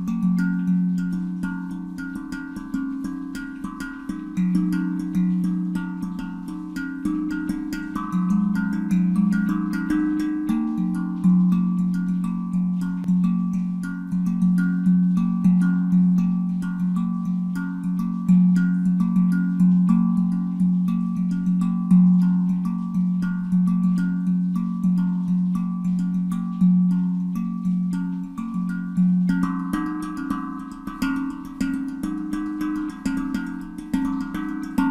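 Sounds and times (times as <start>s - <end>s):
handpan ringing notes: 0.0s - 34.9s.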